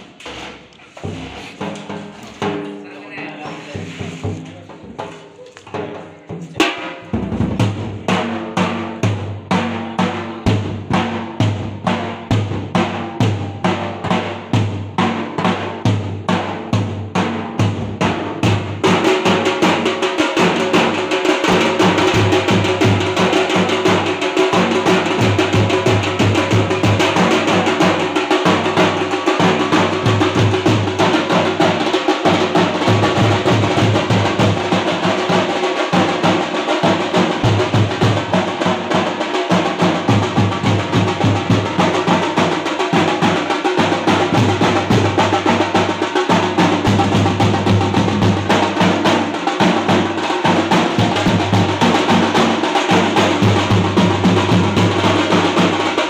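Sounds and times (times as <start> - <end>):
steel drums beaten in rhythm: 5.7 - 56.0.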